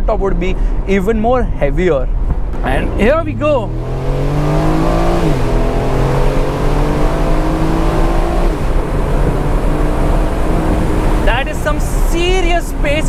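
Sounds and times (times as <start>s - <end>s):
car engine accelerating hard: 2.5s - 13.0s.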